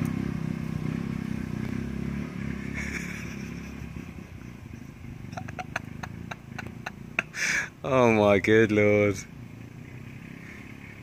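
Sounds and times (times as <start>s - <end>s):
small vehicle motor running: 0.0s - 7.7s, 9.5s - 11.0s.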